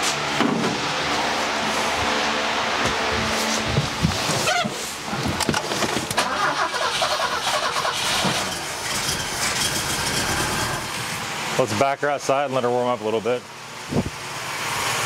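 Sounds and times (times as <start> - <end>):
car engine running unevenly: 0.0 - 12.2.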